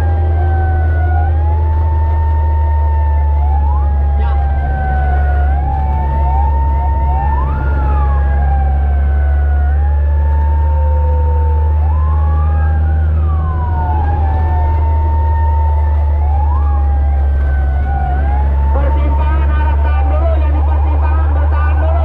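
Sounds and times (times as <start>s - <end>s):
fire truck sirens wailing: 0.0s - 22.0s
low engine rumble: 0.0s - 22.0s.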